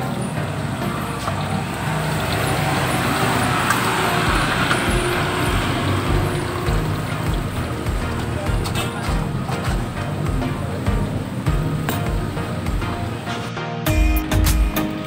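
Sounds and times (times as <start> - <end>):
background music with low beat: 0.0 - 15.0
road traffic passing: 0.0 - 15.0.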